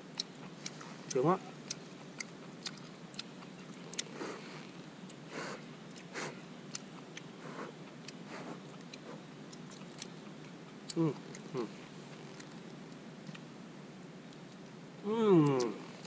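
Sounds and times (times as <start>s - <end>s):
chewing: 0.1s - 13.5s.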